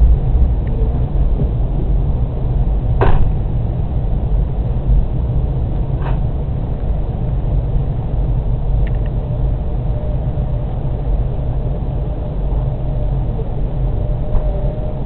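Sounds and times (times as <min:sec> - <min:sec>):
faint steady whine: 0:00.0 - 0:15.0
train rumble from inside coach: 0:00.0 - 0:15.0.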